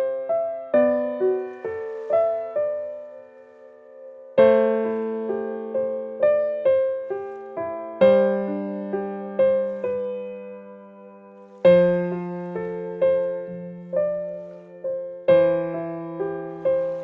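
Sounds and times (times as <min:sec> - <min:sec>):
slow solo piano music: 0:00.0 - 0:17.0.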